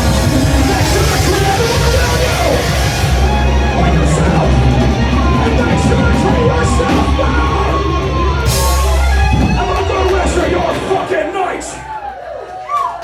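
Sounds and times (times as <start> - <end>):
heavy rock band playing: 0.0 - 12.3.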